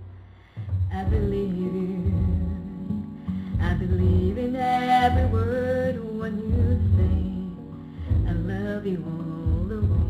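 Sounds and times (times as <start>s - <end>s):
pop love ballad singing: 0.8s - 10.0s.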